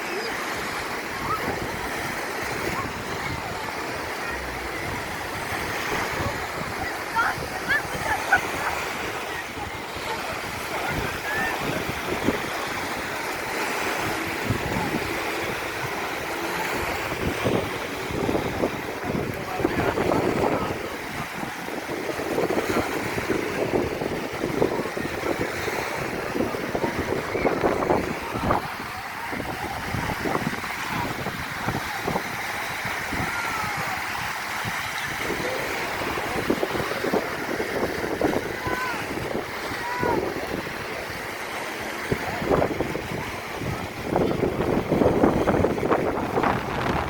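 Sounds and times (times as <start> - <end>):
waves breaking on beach: 0.0 - 47.0
wind buffeting microphone: 0.0 - 47.0.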